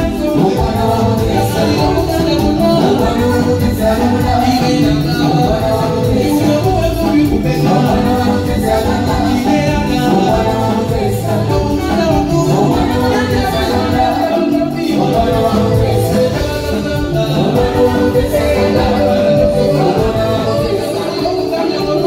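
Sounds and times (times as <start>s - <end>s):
band with singer: 0.0s - 22.0s.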